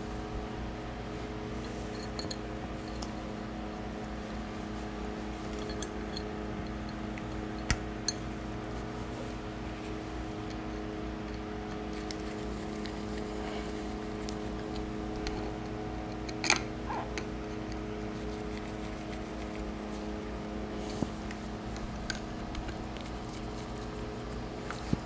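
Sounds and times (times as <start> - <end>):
background hum: 0.0 - 25.0.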